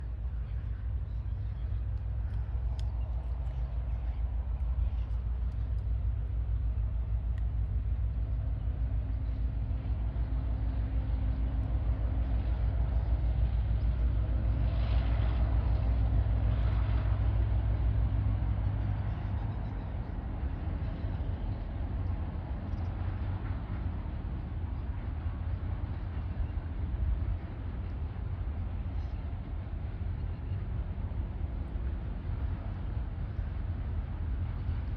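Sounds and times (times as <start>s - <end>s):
diesel locomotive engine rumble: 0.0s - 34.9s.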